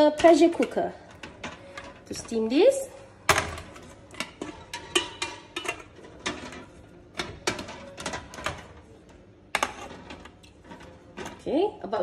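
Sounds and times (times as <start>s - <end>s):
vegetables clinking into metal pans: 0.0s - 12.0s.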